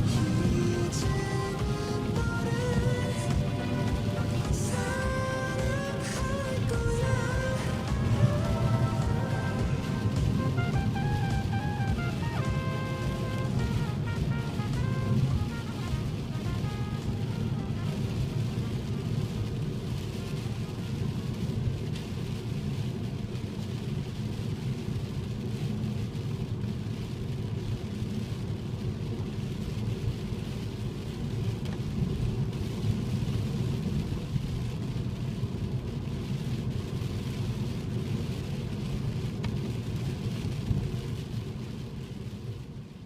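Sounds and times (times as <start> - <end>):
car rumbling in motion: 0.0 - 43.0
rain falling on a car: 0.0 - 43.0.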